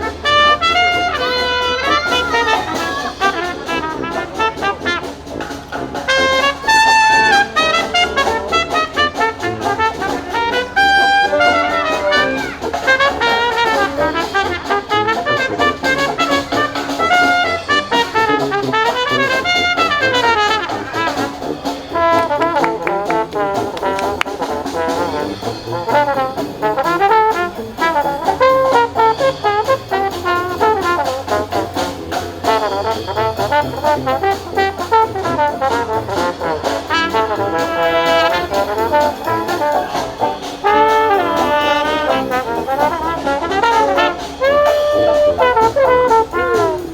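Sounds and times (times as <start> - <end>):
brass band playing jazz: 0.0 - 46.9.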